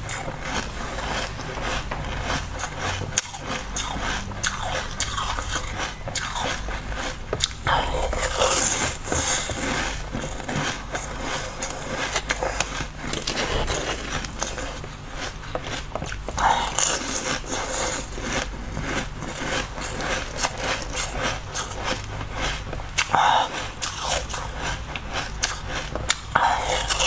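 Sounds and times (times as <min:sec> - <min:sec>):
crunchy chewing of frozen treat: 0:00.0 - 0:27.0.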